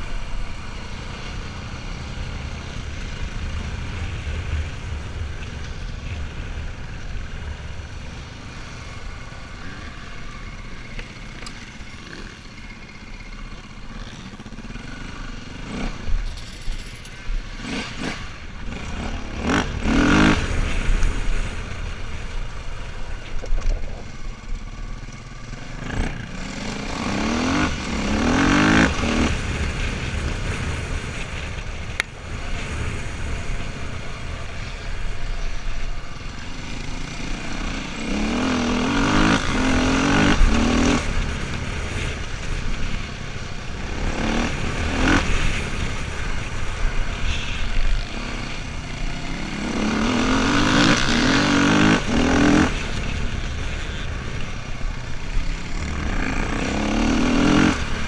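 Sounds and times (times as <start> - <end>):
dirt bike engine revving: 0.0 - 22.1, 24.5 - 58.0.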